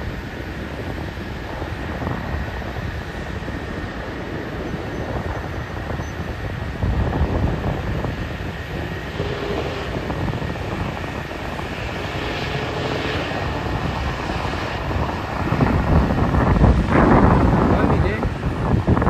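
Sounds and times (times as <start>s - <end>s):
distant jet engines rumbling: 0.0s - 19.0s
wind buffeting microphone: 0.0s - 19.0s.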